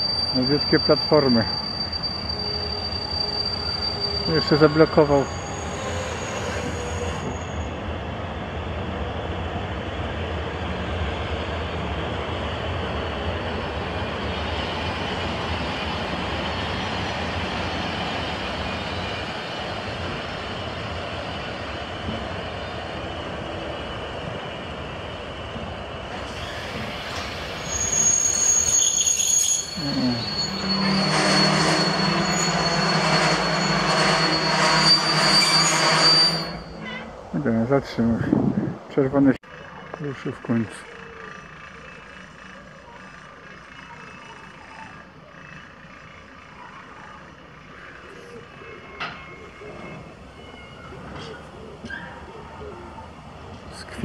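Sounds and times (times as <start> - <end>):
train brakes squealing: 0.0 - 8.0, 13.2 - 24.6, 25.4 - 37.2, 39.5 - 52.8
freight train rolling on rails: 0.0 - 54.0
low groan of train: 0.0 - 54.0.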